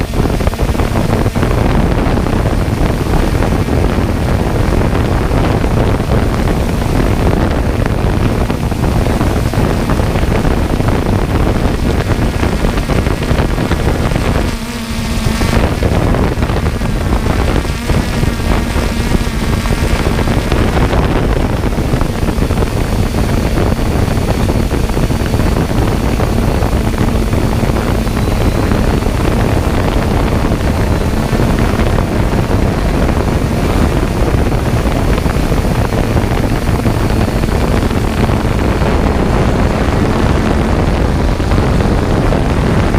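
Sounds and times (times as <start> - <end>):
drone propellers whirring: 0.0 - 42.9
wind on microphone: 0.0 - 42.9.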